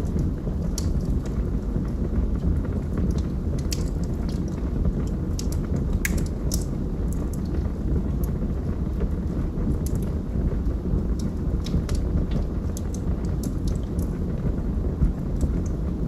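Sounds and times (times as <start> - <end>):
fire crackling and popping: 0.0 - 16.0
flames rushing: 0.0 - 16.0.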